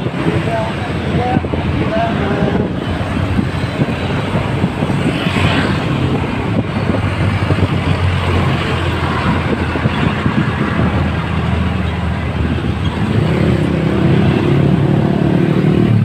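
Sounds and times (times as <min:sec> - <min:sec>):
motorcycle and car traffic rumble: 0:00.0 - 0:16.0
wind buffeting microphone: 0:00.0 - 0:16.0.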